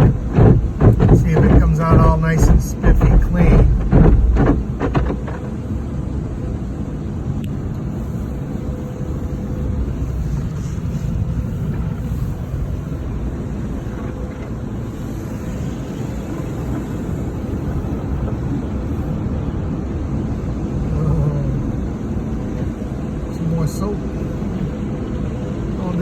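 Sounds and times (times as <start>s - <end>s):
car wash low rumble: 0.0s - 26.0s.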